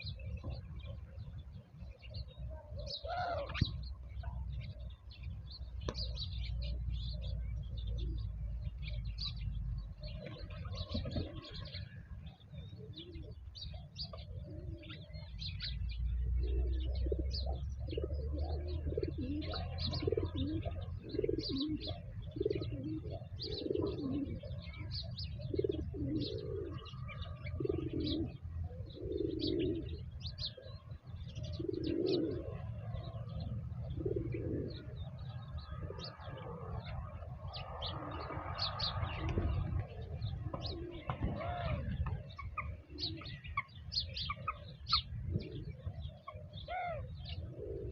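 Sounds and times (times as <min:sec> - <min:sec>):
doves cooing: 0:00.0 - 0:47.9
small birds chirping: 0:00.0 - 0:47.9.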